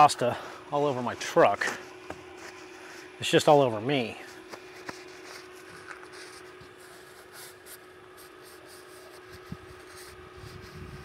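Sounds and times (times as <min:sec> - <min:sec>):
steady hum: 0:00.0 - 0:11.0
scratchy rubbing and rustling: 0:00.8 - 0:11.0.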